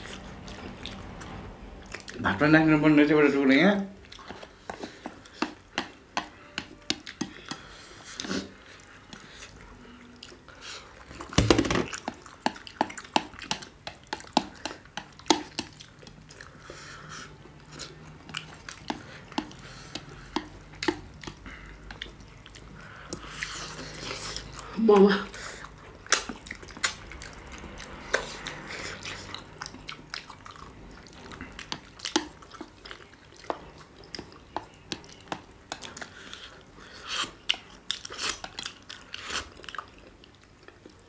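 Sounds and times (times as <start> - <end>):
chewing and biting: 4.0 - 24.8, 25.4 - 41.0.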